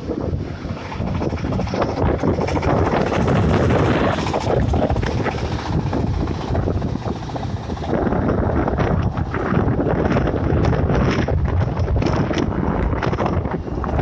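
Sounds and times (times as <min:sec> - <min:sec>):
wind buffeting microphone: 0:00.0 - 0:14.0
corn sheller engine running: 0:00.1 - 0:12.7.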